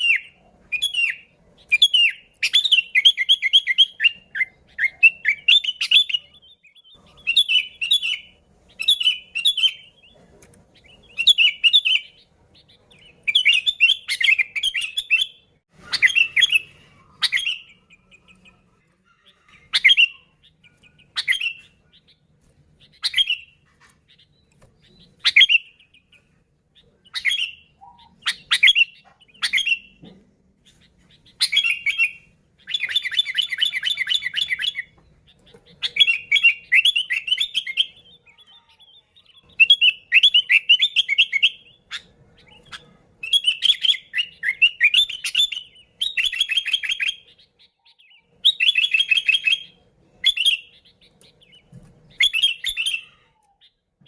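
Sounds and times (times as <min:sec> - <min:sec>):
bulbul singing: 0:00.0 - 0:54.0.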